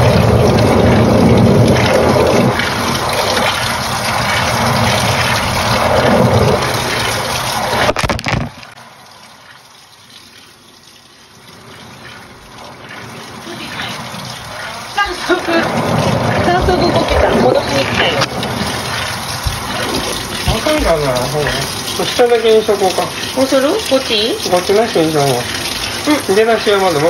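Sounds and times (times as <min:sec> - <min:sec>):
water rushing into washing machine: 0:00.0 - 0:27.0.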